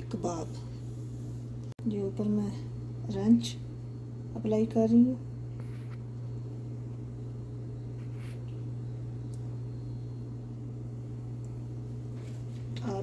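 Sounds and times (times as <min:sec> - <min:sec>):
low hum of fan or motor: 0:00.0 - 0:13.0.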